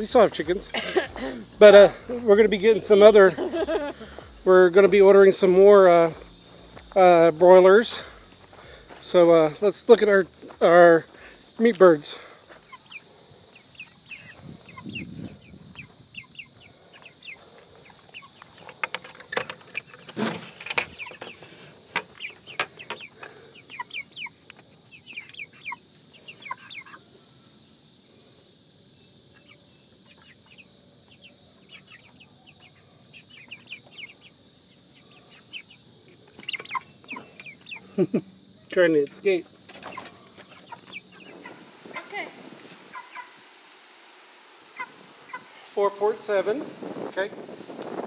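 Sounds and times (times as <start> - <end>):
chickens clucking and peeping: 0.0 - 27.9, 29.2 - 43.5, 44.6 - 45.7.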